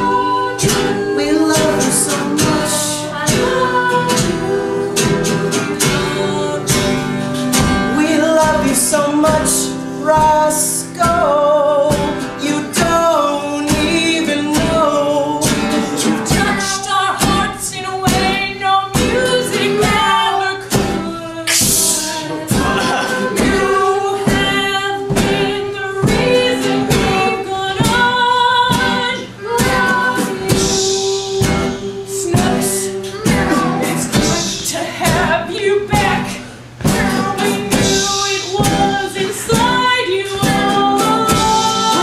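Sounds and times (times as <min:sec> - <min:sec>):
instrumental accompaniment: 0:00.0 - 0:42.0
man and woman singing together: 0:00.0 - 0:42.0.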